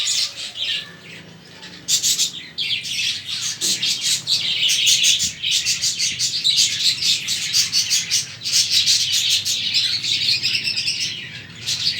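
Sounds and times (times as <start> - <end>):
budgerigars chattering: 0.0 - 11.9.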